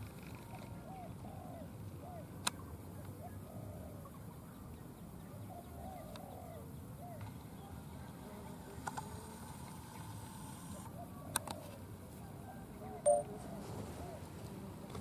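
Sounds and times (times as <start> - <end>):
dove cooing: 0.3 - 2.4, 3.2 - 4.2, 5.3 - 9.6, 10.2 - 15.0.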